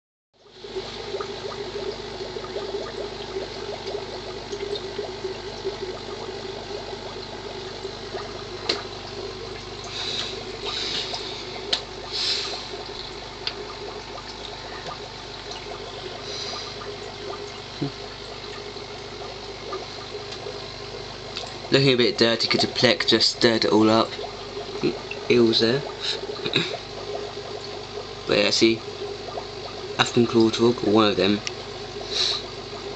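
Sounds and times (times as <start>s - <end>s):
aquarium water trickling: 0.4s - 32.9s.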